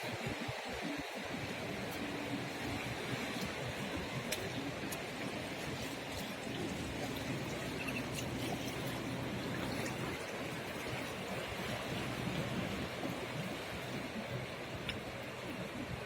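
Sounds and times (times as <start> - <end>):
seawater washing among rocks: 0.0 - 16.0
faint clicks and drips: 1.8 - 12.2, 13.0 - 16.0.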